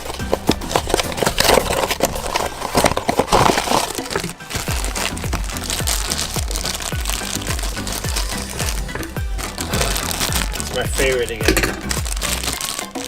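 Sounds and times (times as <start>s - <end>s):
hip-hop beat music: 0.0s - 13.0s
packaging crinkling and tearing: 0.0s - 13.0s.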